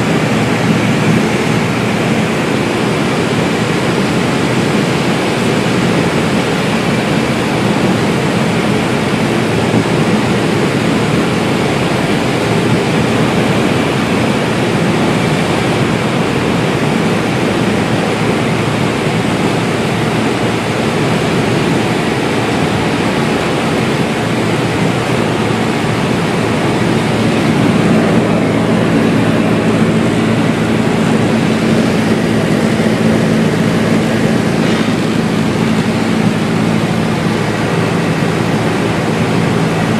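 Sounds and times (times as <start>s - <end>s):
rush of airflow: 0.0s - 39.9s
small plane engine and propeller: 0.0s - 39.9s.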